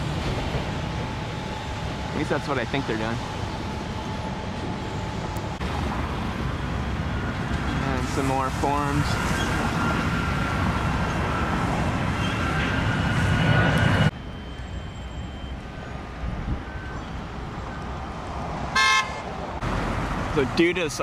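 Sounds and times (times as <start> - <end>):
road and traffic noise: 0.0 - 21.0.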